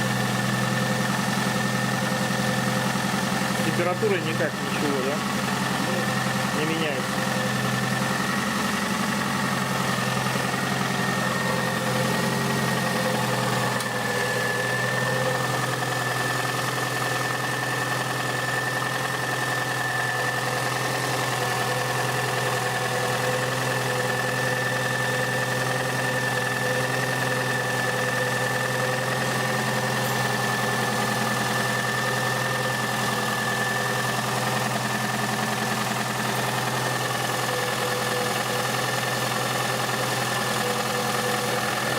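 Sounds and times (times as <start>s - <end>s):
car engine idling with knock: 0.0s - 41.9s.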